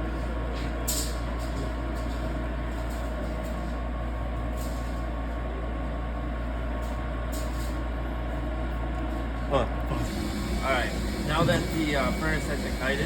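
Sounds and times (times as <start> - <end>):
gas furnace humming: 0.0 - 13.0.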